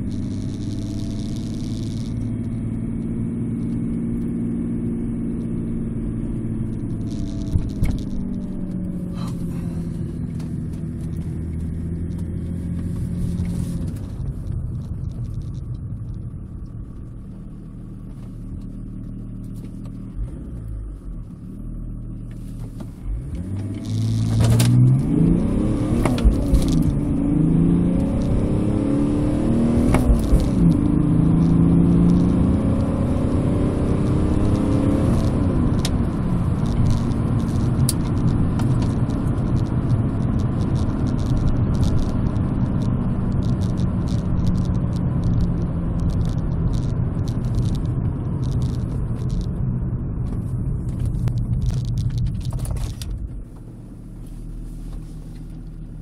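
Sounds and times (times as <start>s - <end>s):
diesel car engine accelerating: 0.0s - 56.0s
road and wind noise: 0.0s - 56.0s.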